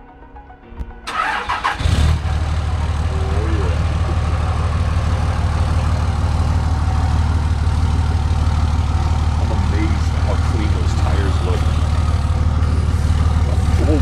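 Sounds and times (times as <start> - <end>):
pickup engine starting and idling: 0.0 - 14.0.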